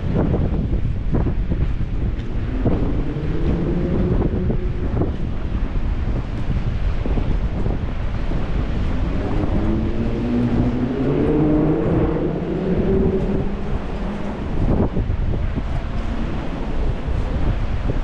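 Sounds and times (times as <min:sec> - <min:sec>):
wind buffeting microphone: 0:00.0 - 0:18.0
vehicle passing on wet street: 0:01.3 - 0:18.0.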